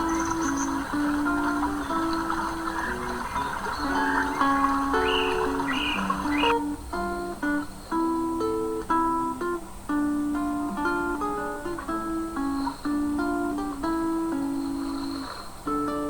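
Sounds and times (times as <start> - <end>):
acoustic guitar melody: 0.0 - 16.0.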